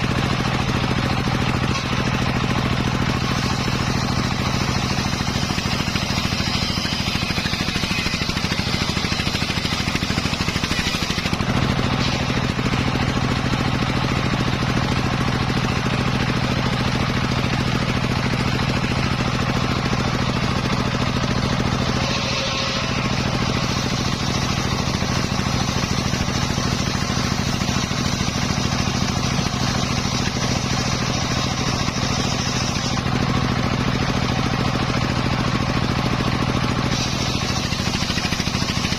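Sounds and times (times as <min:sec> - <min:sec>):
engine-driven circular saw running: 0:00.0 - 0:38.9.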